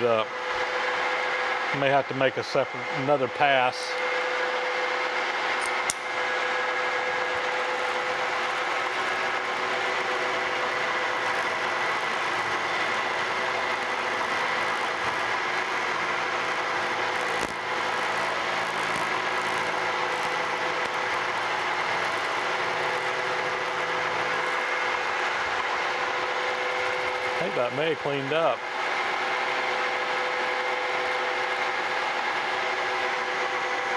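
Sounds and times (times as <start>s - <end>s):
milling machine cutting metal: 0.3s - 33.9s.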